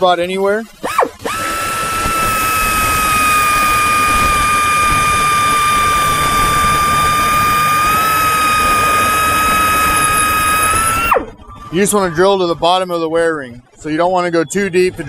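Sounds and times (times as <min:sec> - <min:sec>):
power drill whining: 0:00.0 - 0:14.2.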